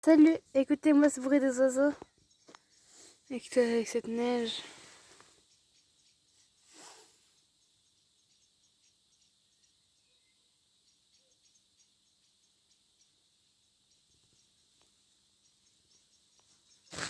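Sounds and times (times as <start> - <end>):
faint distant birds chirping: 0.1 - 17.0.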